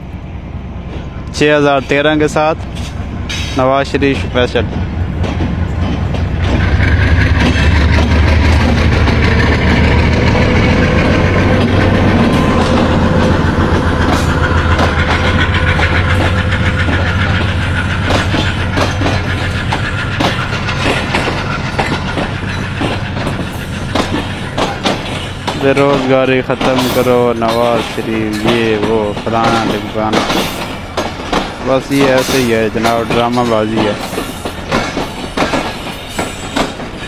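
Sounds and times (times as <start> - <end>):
diesel locomotive engine droning: 0.0 - 37.0
train wheels clacking over rail joints: 0.9 - 37.0.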